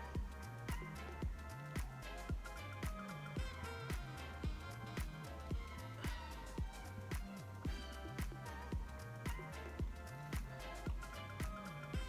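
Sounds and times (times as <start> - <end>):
kick drum beat: 0.0 - 12.0
stepping bass line: 0.0 - 12.0.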